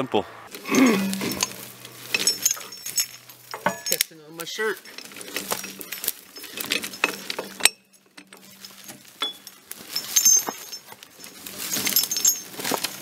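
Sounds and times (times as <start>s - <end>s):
branches and brush rustling: 0.4s - 13.0s
twigs cracking and snapping: 0.5s - 13.0s.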